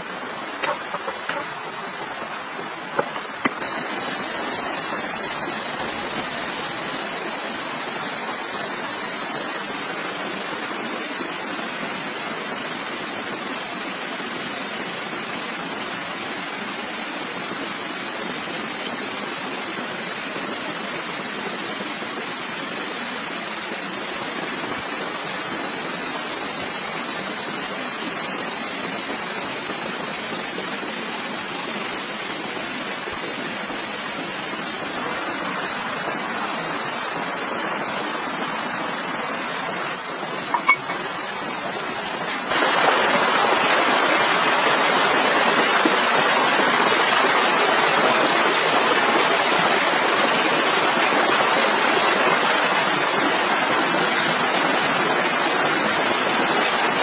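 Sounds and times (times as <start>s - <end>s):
high-pitched insect drone: 0.0s - 57.0s
rushing hiss: 0.0s - 57.0s.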